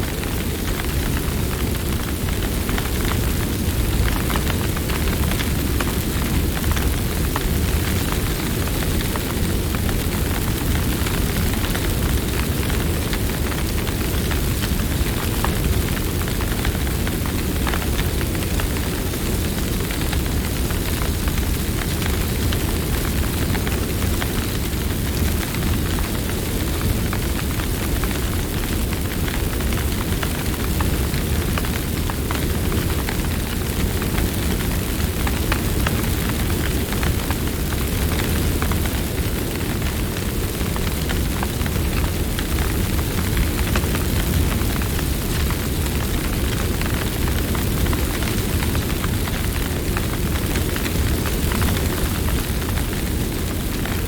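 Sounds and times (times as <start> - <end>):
campfire crackling and popping: 0.1 - 54.0.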